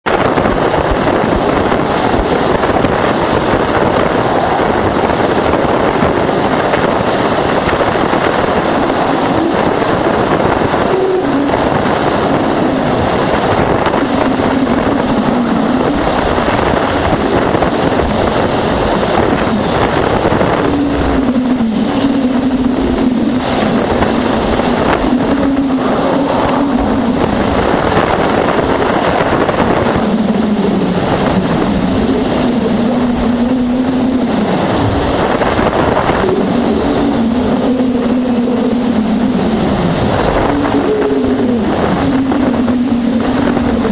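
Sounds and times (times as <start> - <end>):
wavering low tone: 0.0 - 43.9.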